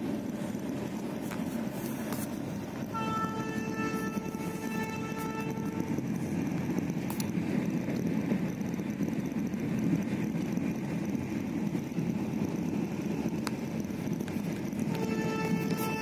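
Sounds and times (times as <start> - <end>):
train rumble inside coach: 0.0 - 16.0.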